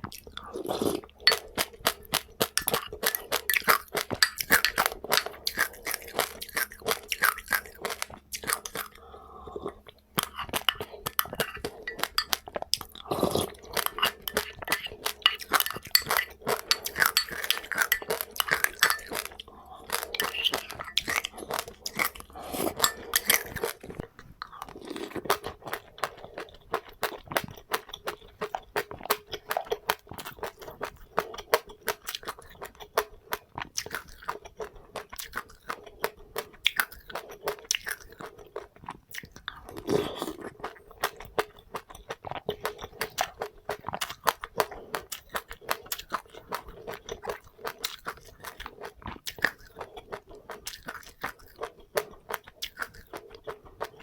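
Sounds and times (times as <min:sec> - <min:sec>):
person chewing crunchy seeds: 0:00.0 - 0:54.0.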